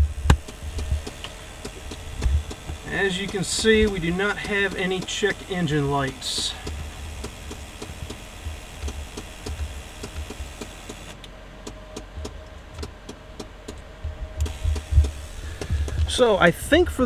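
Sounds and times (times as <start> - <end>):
car engine idling: 0.0 - 17.0
light engine ticking: 0.3 - 12.1, 14.4 - 16.4.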